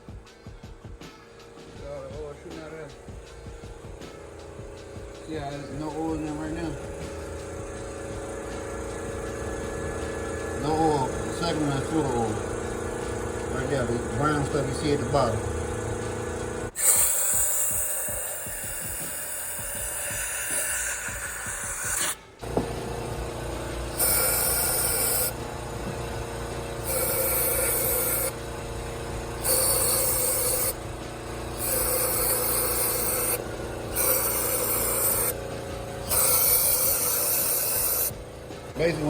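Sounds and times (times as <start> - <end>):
aerosol spray hissing: 2.6 - 38.2.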